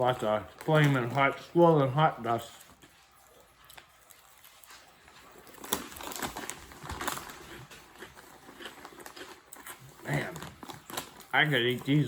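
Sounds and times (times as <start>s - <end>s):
pork rinds crackling and crunching: 0.0s - 12.0s.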